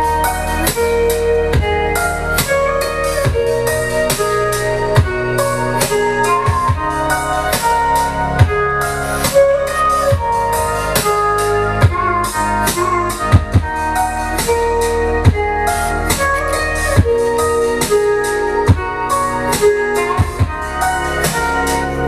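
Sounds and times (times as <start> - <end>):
music over loudspeakers: 0.0 - 22.0.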